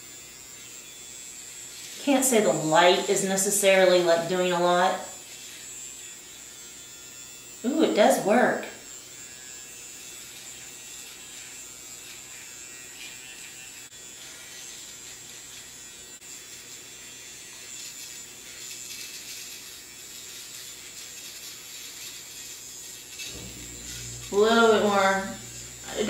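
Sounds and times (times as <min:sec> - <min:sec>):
facial hair remover buzzing: 0:00.0 - 0:26.0.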